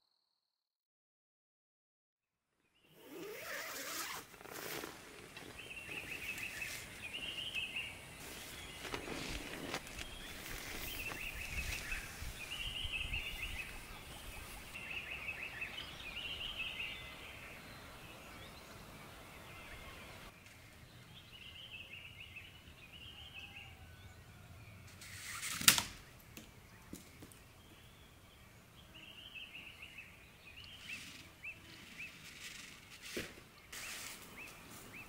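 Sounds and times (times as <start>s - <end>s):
small birds chirping: 2.8s - 35.0s.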